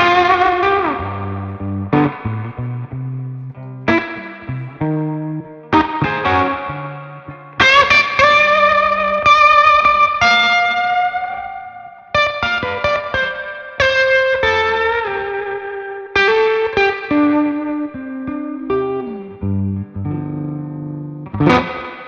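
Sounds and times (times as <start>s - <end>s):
electric guitar riff: 0.0s - 22.0s.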